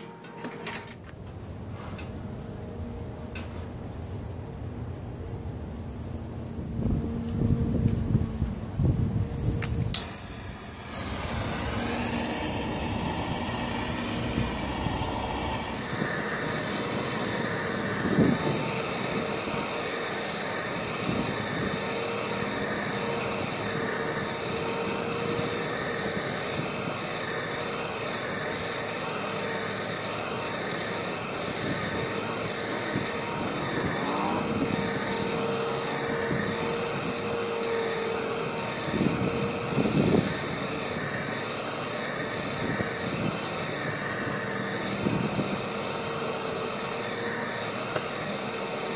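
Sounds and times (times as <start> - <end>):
gas torch hissing: 8.8 - 48.9.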